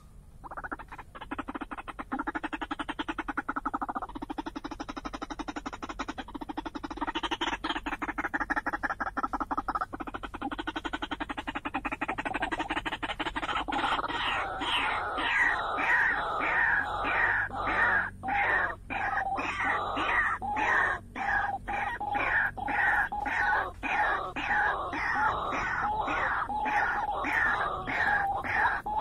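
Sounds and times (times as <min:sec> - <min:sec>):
waterhen calling: 0:00.0 - 0:29.0.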